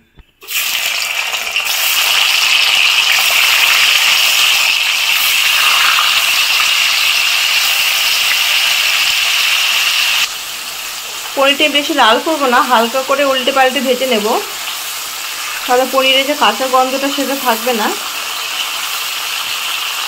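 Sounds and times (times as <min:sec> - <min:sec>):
cheese frying in hot oil: 0:00.4 - 0:20.0.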